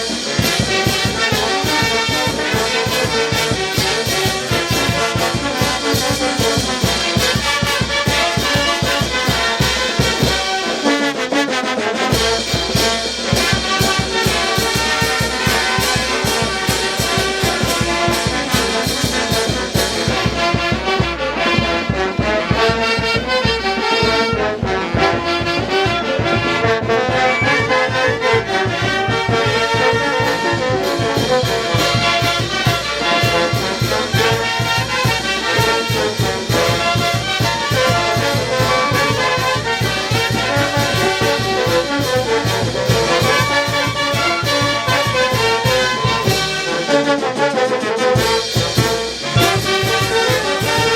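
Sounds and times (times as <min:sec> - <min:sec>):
quick drum beat: 0:00.0 - 0:10.4, 0:12.1 - 0:46.8, 0:48.2 - 0:50.9
brass band playing: 0:00.0 - 0:50.9.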